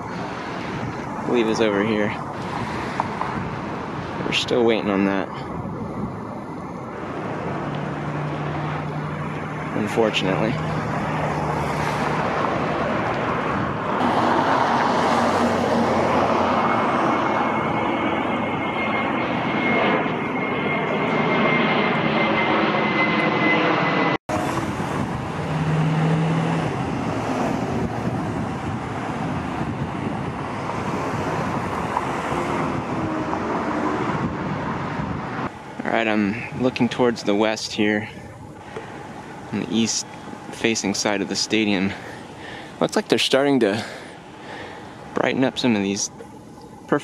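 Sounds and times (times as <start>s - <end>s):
high engine whine: 0.0s - 47.0s
jet airliner roaring overhead: 0.0s - 47.0s.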